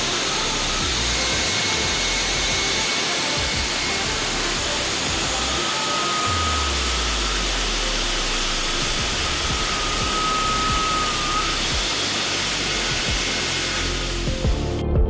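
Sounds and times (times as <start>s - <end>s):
concrete cutting saw running: 0.0s - 14.5s
faint high whine: 0.0s - 14.5s.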